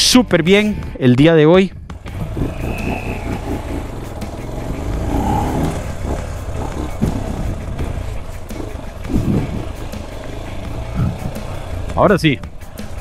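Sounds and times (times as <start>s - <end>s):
motorcycle engine running: 1.9s - 13.0s.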